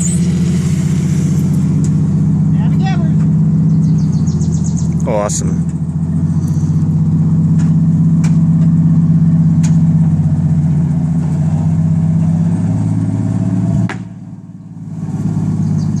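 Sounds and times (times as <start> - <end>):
forklift engine running: 0.0 - 16.0.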